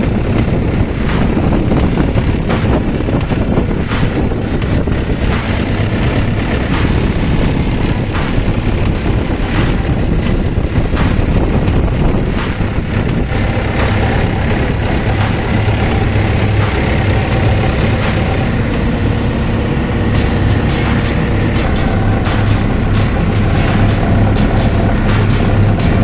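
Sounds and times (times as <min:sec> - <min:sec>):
excavator diesel engine idling: 0:00.0 - 0:26.0
sharp knocks: 0:00.0 - 0:26.0.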